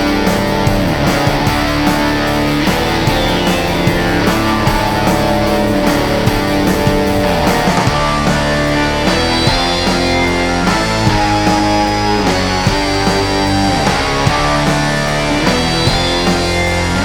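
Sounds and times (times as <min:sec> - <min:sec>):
rock music with guitars: 0:00.0 - 0:17.0.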